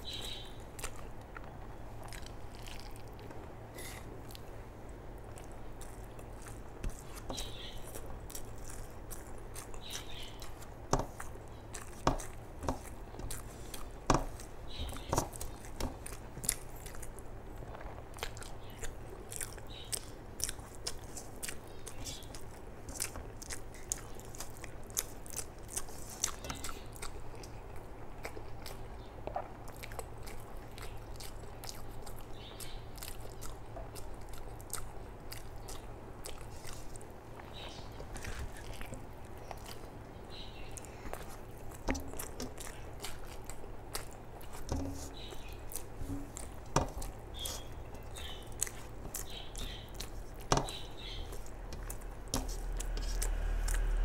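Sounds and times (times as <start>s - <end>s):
low steady hum: 0.0s - 54.0s
chewing and lip-smacking: 0.1s - 54.0s.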